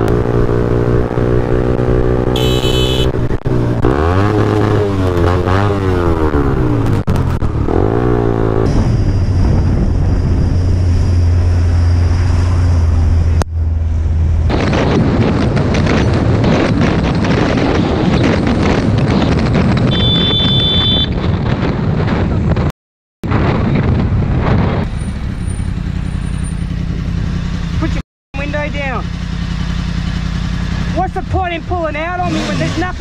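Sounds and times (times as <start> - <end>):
wind noise on microphone: 0.0 - 13.4, 14.0 - 27.9
motorcycle engine hum: 0.0 - 22.7, 23.6 - 33.0.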